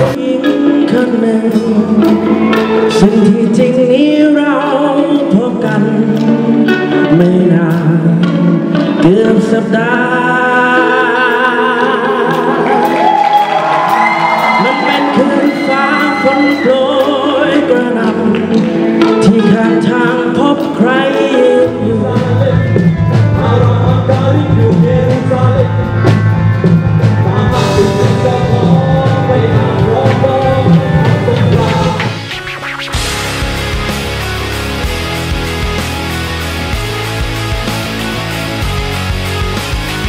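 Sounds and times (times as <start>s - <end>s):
bass and drums: 0.0s - 10.0s, 11.9s - 40.0s
person singing: 0.0s - 34.3s
band playing: 0.0s - 40.0s.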